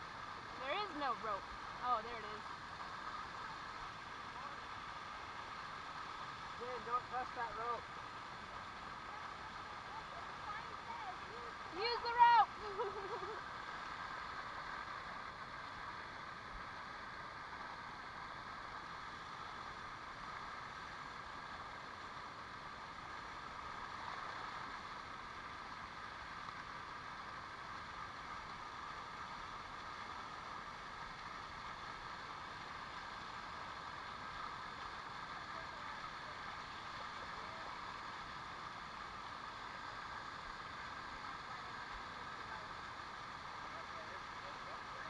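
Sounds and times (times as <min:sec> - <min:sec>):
waterfall rushing over rock: 0:00.0 - 0:45.0.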